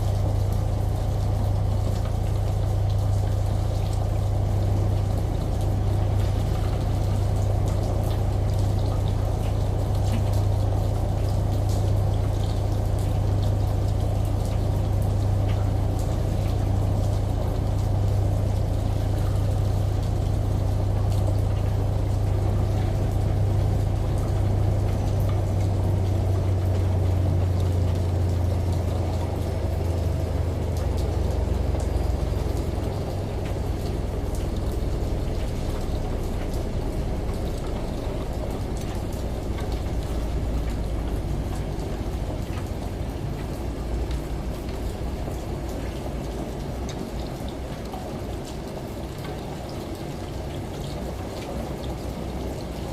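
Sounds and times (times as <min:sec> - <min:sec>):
washing machine humming: 0:00.0 - 0:52.9
water drops ticking: 0:00.1 - 0:52.7.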